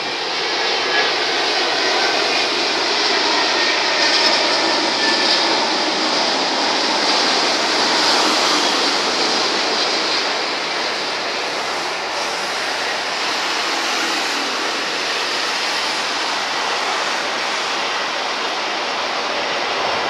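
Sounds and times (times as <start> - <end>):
jet airliner passing overhead: 0.0 - 20.0.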